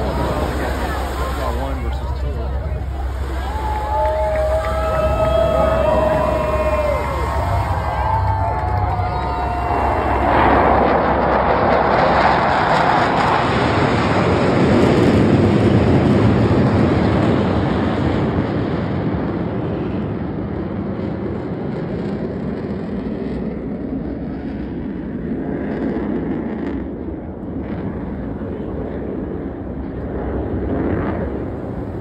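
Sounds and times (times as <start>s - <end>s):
jet roar overhead: 0.0s - 32.0s.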